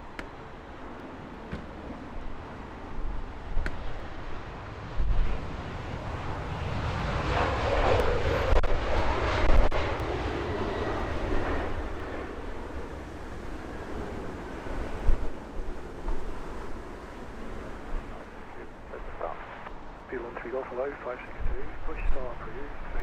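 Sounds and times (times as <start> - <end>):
jet airliner passing by: 0.0 - 23.0.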